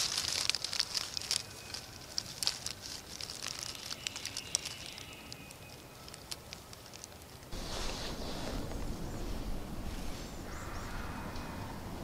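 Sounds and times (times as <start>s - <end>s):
dry leaves crackling and rustling: 0.0s - 10.5s.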